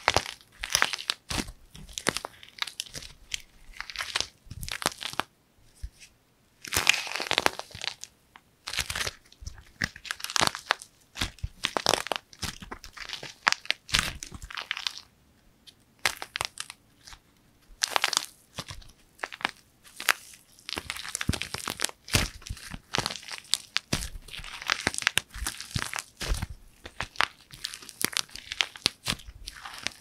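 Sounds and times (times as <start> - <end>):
dried clay cracking and crumbling: 0.0 - 6.1, 6.7 - 15.1, 16.0 - 30.0.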